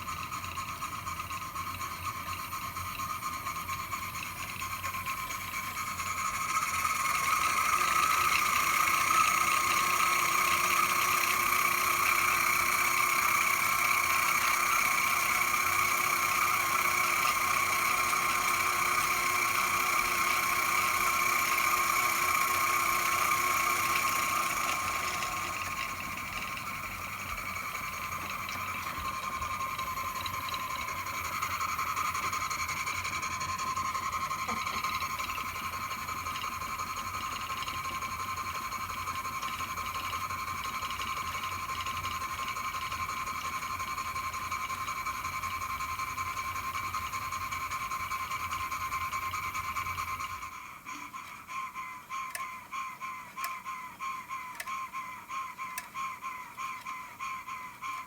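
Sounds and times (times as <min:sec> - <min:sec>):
steam engine mechanical whirr: 0:00.0 - 0:58.0.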